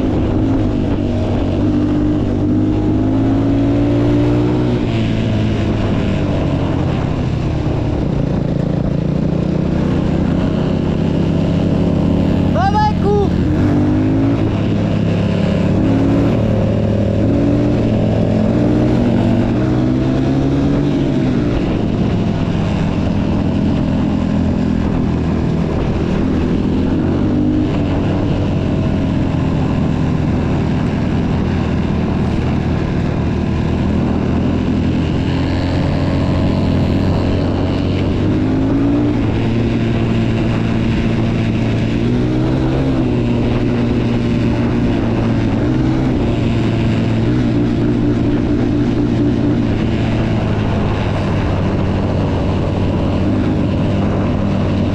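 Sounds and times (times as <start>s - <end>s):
motocross bike engines revving: 7.9s - 54.9s.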